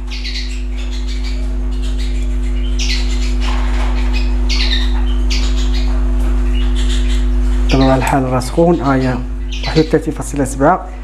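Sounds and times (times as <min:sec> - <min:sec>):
cage birds chirping: 0:00.0 - 0:11.0
loud low electrical hum: 0:00.0 - 0:11.0.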